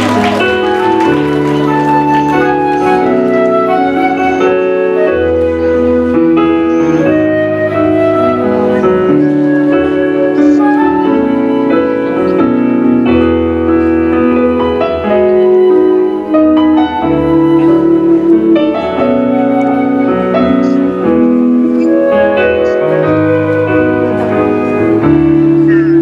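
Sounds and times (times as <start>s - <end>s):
keyboard playing slow chords: 0.0s - 26.0s.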